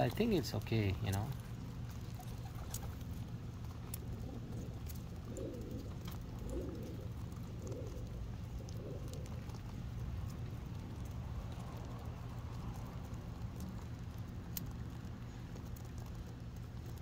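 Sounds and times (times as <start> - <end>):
beaks pecking on concrete: 0.0 - 17.0
steady low rumble: 0.0 - 17.0
pigeons cooing: 1.4 - 17.0.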